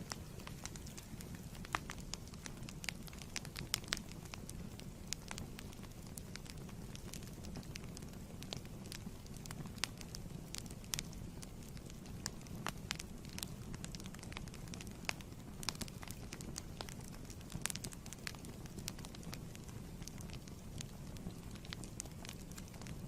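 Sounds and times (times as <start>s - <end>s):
fire rumbling: 0.0s - 23.0s
wood crackling and popping: 0.0s - 23.0s.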